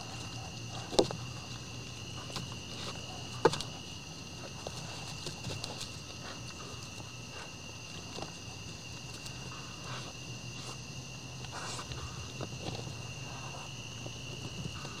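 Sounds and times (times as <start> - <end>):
crickets chirping: 0.0 - 15.0
deer feeding at plastic pans: 0.0 - 15.0.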